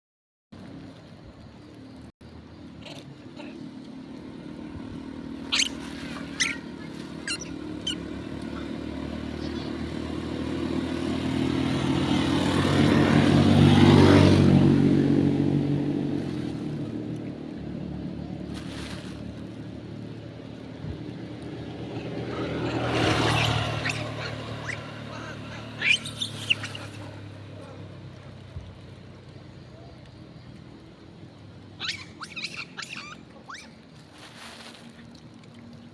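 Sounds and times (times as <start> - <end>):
motor vehicle passing by: 0.6 - 35.9.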